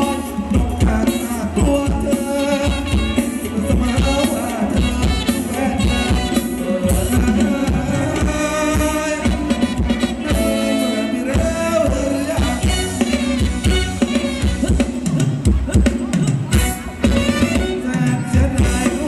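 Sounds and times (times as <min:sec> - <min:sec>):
person singing: 0:00.0 - 0:19.0
steady drum beat: 0:00.0 - 0:19.0.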